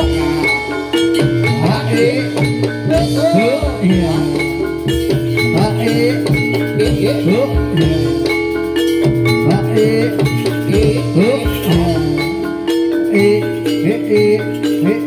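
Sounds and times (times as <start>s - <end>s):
drum strokes: 0.0s - 15.0s
ringing metallophone notes: 0.0s - 15.0s.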